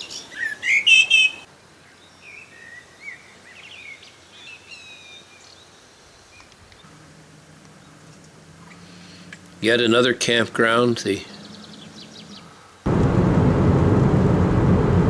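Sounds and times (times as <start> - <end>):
faint distant birdsong: 0.0 - 12.9.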